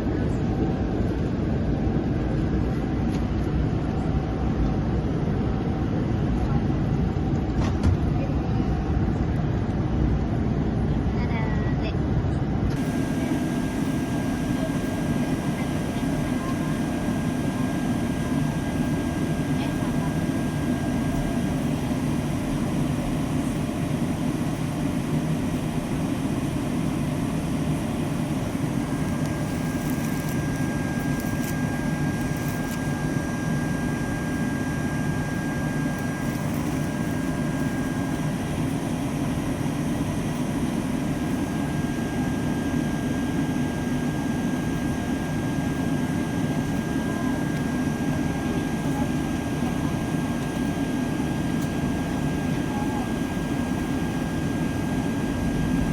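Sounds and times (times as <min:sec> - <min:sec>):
airliner cabin air and engine hum: 0:00.0 - 0:55.9.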